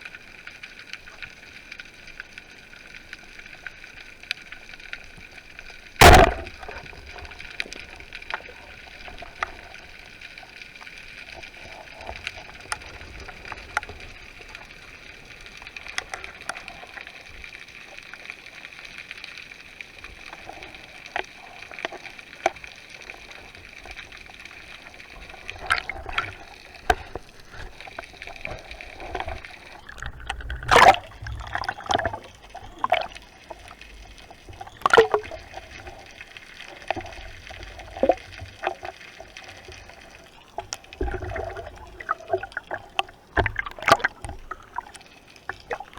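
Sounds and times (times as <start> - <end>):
water gurgling and sloshing: 5.0 - 45.9.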